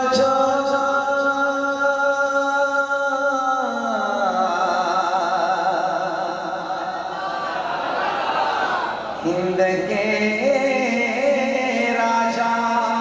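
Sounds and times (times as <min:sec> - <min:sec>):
man singing: 0:00.0 - 0:07.0, 0:09.2 - 0:13.0.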